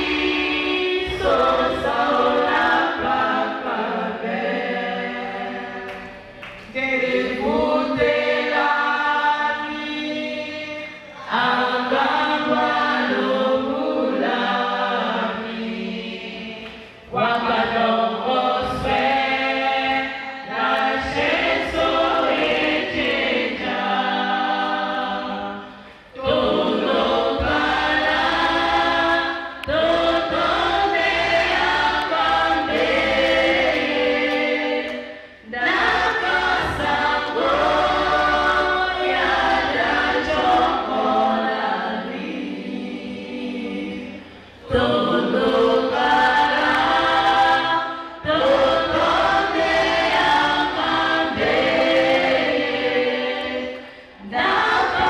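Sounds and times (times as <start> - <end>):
women's choir singing: 0.0 - 55.0.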